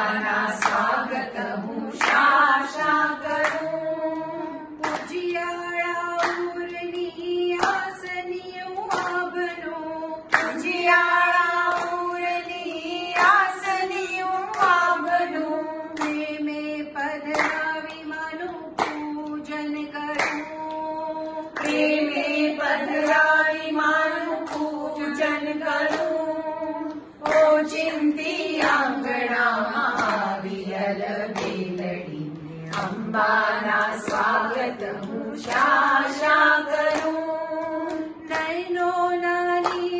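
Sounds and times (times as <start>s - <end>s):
hand claps: 0.0s - 1.3s, 1.9s - 39.9s
women singing in unison: 0.0s - 39.9s.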